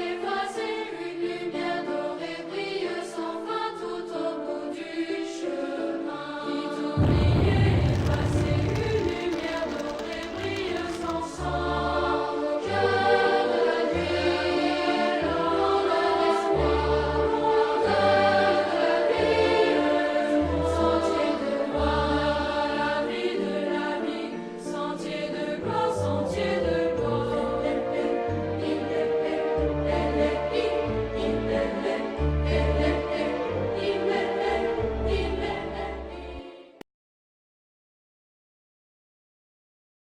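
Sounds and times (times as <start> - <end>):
choir singing held notes: 0.0 - 36.8.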